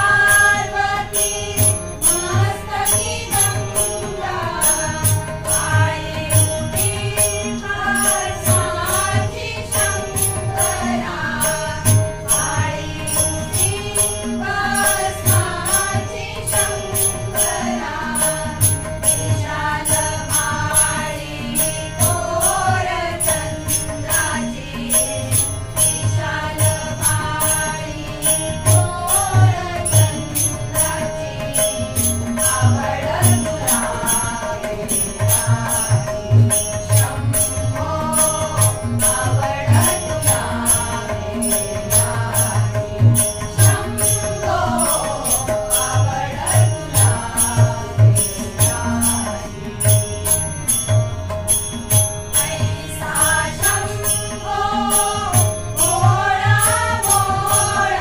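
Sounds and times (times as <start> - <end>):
group devotional singing: 0.0 - 50.1, 52.0 - 58.0
hand drum beating: 0.0 - 58.0
harmonium drone: 0.0 - 58.0.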